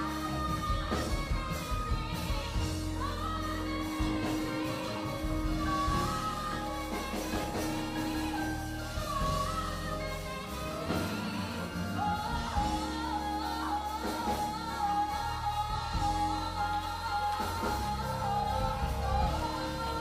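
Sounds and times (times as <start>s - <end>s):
steady bass line: 0.0s - 20.0s.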